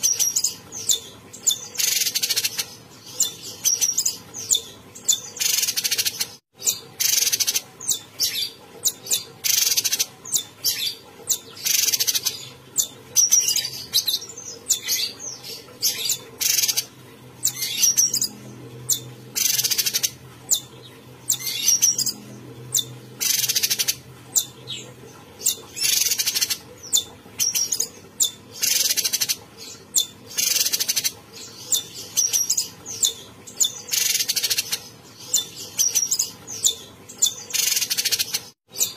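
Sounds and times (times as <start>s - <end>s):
songbird chirpy singing: 0.0s - 38.9s.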